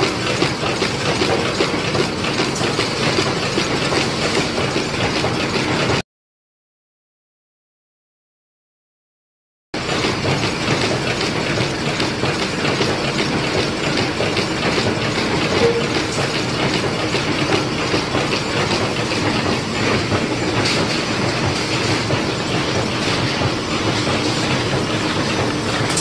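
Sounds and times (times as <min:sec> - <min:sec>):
machine clatter of belts and rollers: 0:00.0 - 0:06.0, 0:09.8 - 0:26.0.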